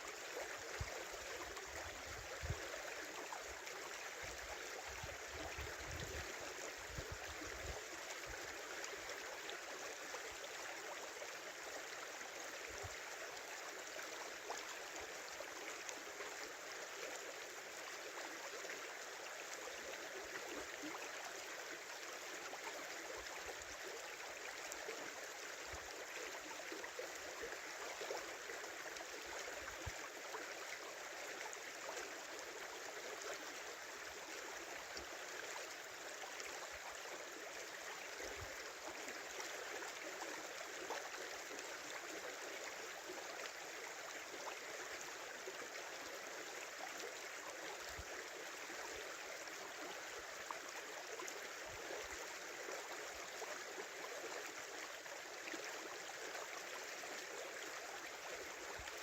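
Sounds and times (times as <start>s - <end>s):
small river babbling: 0.0s - 59.0s.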